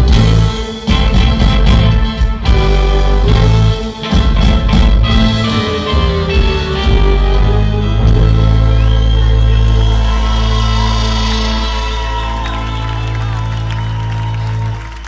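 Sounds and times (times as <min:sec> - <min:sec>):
bass: 0:00.0 - 0:15.0.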